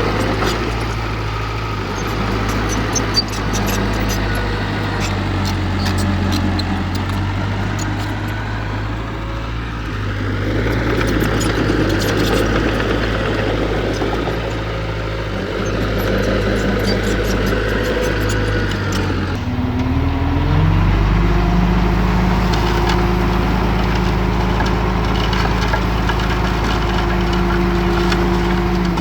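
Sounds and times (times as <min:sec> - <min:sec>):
heavy diesel machinery running: 0:00.0 - 0:29.0.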